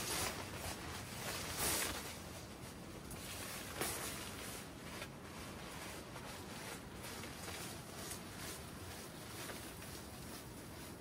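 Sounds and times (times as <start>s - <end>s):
tent fabric rustling in wind: 0.0s - 11.0s.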